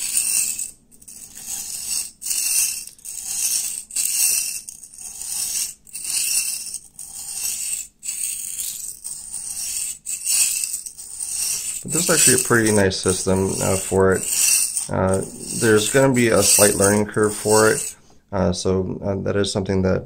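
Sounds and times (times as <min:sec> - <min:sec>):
knife stroking on sharpening stone: 0:00.0 - 0:18.0.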